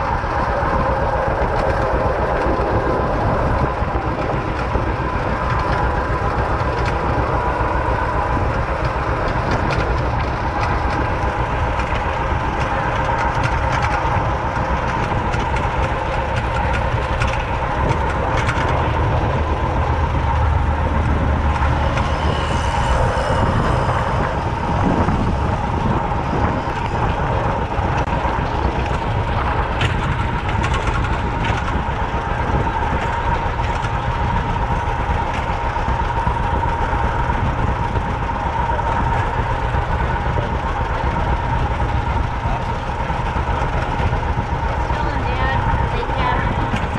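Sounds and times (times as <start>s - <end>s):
tractor engine rumble: 0.0s - 46.9s.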